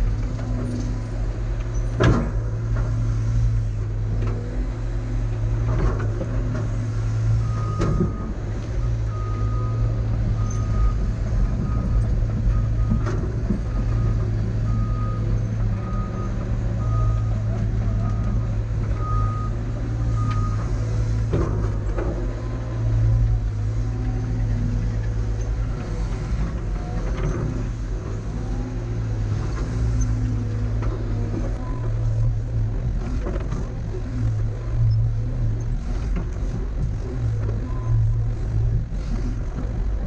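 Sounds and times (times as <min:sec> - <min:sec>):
heavy diesel excavator engine: 0:00.0 - 0:40.0.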